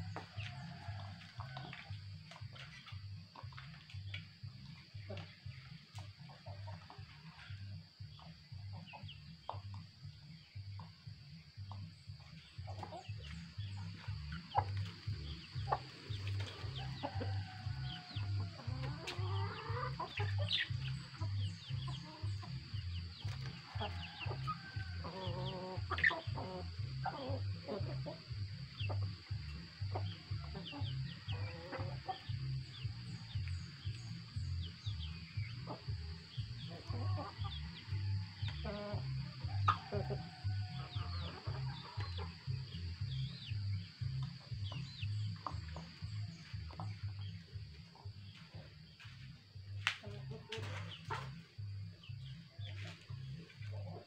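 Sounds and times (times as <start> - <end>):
chickens clucking: 0.0 - 10.0, 10.6 - 54.0
background music with low beat: 0.0 - 54.0.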